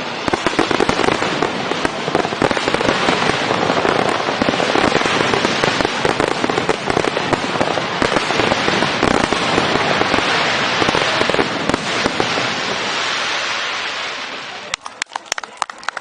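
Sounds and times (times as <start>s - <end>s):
fireworks crackling pops: 0.0s - 16.0s.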